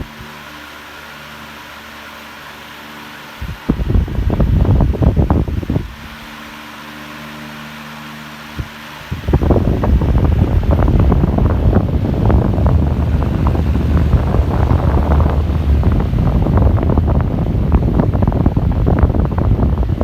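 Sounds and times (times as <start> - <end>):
fan wind noise on microphone: 0.0 - 20.0.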